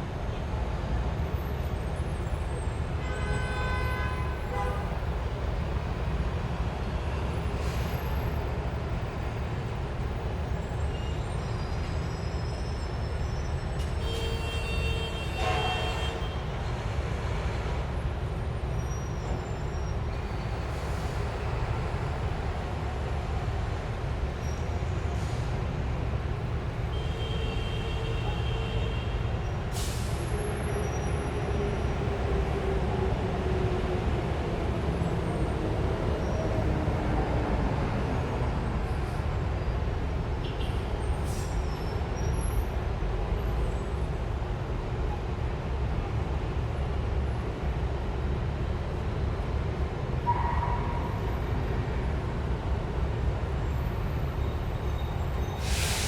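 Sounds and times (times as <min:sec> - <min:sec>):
traffic engines rumbling: 0:00.0 - 0:56.0.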